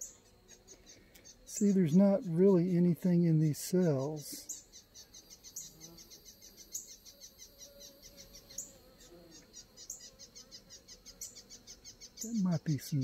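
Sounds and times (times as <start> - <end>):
honeybee humming: 0.0 - 13.0
insects chirping: 0.0 - 13.0.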